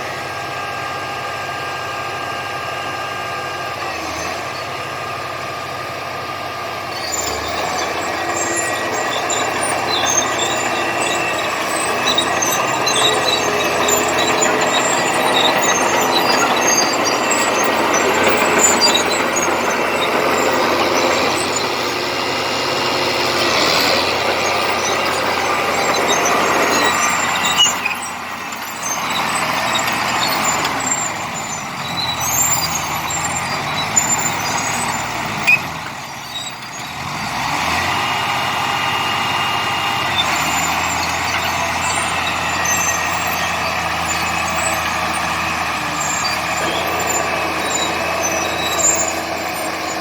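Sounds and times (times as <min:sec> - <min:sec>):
bulldozer diesel engine running: 0:00.0 - 0:50.0
steel tracks squeaking: 0:06.6 - 0:50.0.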